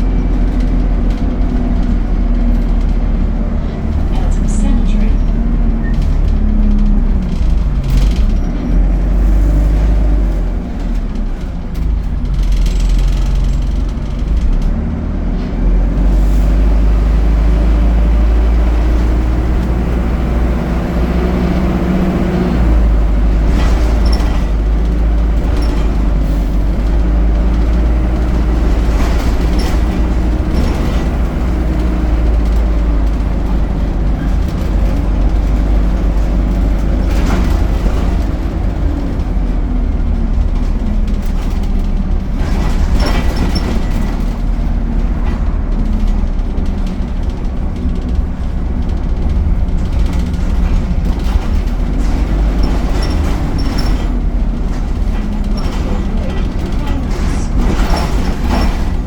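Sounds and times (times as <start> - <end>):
knocks and rattles: 0.0 - 16.2, 16.8 - 59.0
bus engine: 0.0 - 59.0
heavy low rumble: 0.0 - 59.0.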